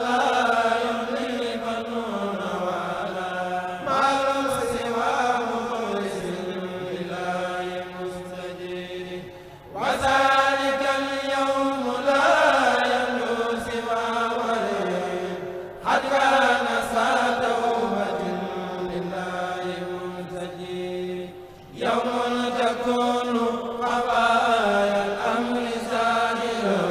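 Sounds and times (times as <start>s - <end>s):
men chanting through microphones: 0.0s - 26.9s.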